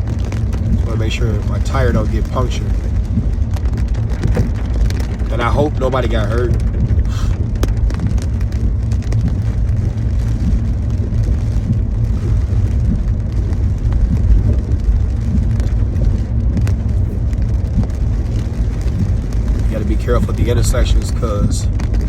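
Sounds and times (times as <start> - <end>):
car driving on wet road: 0.0 - 22.0.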